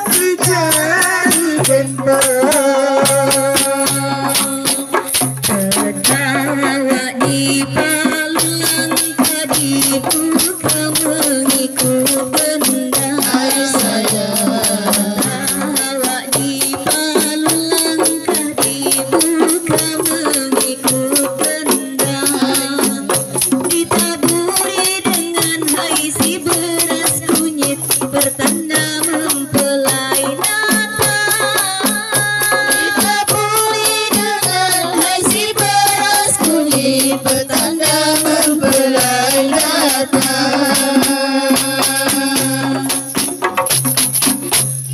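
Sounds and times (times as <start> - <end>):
woman singing into microphone: 0.0 - 43.1
frame drums beaten by hand: 0.0 - 44.9.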